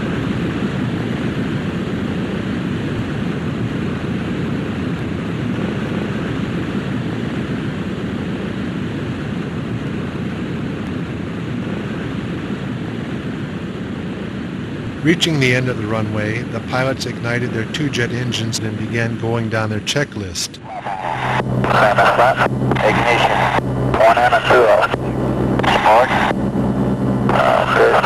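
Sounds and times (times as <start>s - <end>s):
propeller aircraft engines droning: 0.0s - 28.0s.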